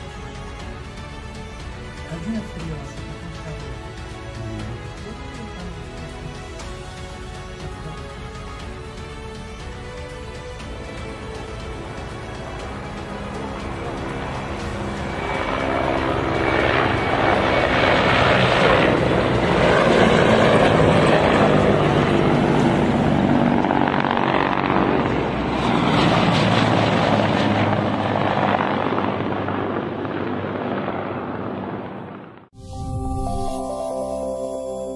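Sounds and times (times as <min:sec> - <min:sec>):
helicopter rotor and engine: 0:00.0 - 0:32.5.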